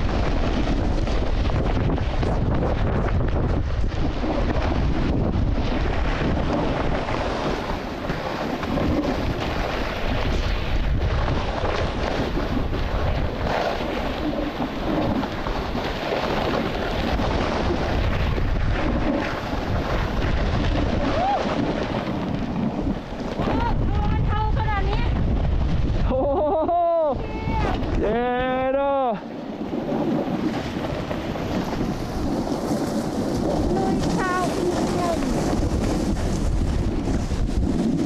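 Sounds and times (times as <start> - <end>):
snowboard sliding on snow: 0.0 - 38.0
wind rushing over microphone: 0.0 - 38.0.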